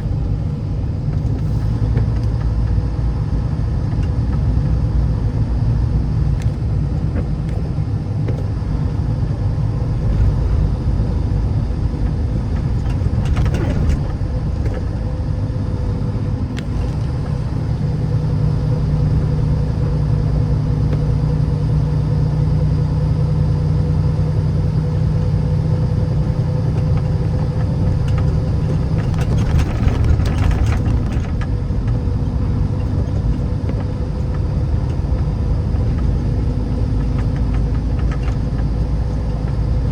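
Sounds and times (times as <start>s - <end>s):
vehicle engine and tyre rumble: 0.0s - 39.9s.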